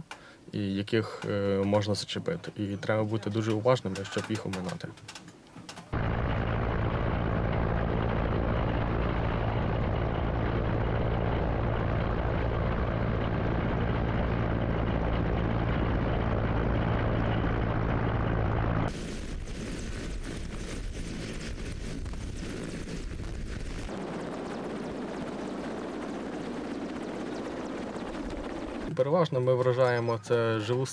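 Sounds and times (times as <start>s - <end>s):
helicopter rotor and turbines: 5.6s - 30.9s.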